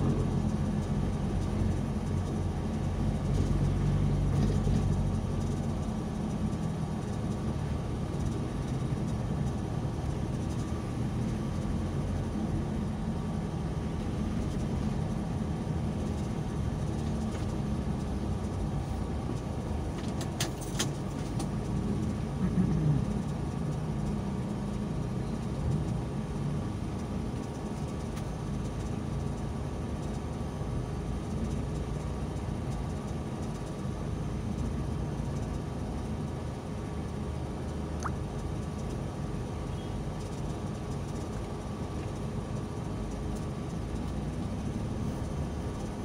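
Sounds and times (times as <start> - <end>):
vehicle engine and road rumble: 0.0 - 46.0.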